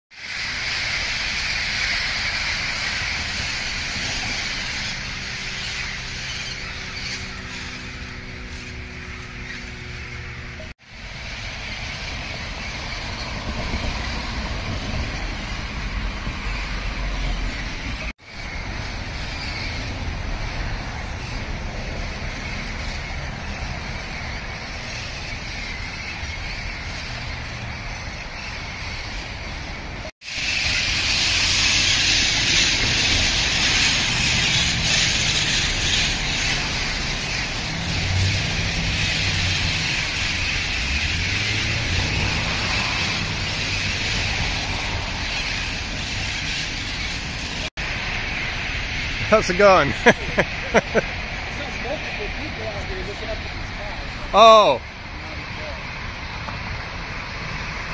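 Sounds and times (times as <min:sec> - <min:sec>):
flock of parrots squawking: 0:00.2 - 0:55.8.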